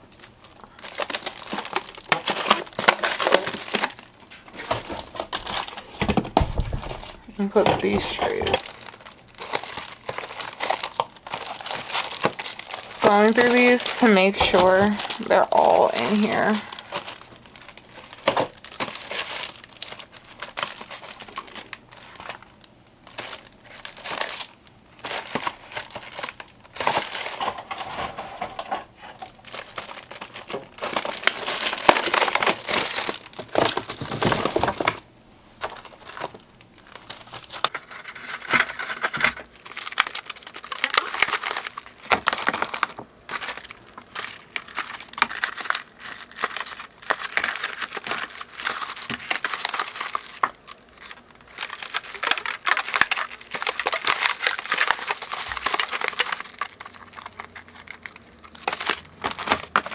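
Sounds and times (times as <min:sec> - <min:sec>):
plastic packaging crinkling: 0:00.0 - 0:59.9.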